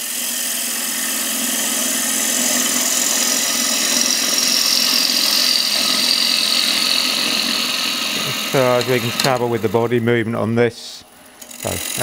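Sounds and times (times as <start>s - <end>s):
gouge cutting wood hiss: 0.0s - 10.0s
lathe low hum: 0.0s - 12.0s.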